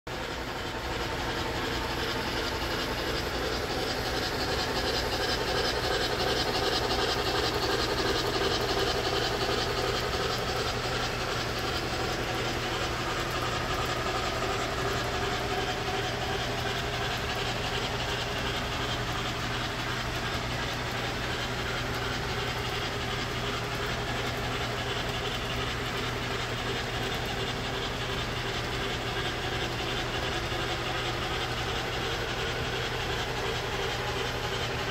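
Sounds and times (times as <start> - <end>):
model train running on track: 0.1 - 34.9.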